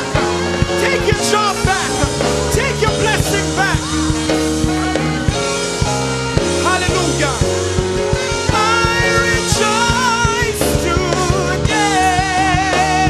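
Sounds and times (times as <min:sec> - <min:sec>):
bass line: 0:00.0 - 0:13.0
person singing: 0:00.0 - 0:13.0
steady drum beat: 0:00.0 - 0:13.0.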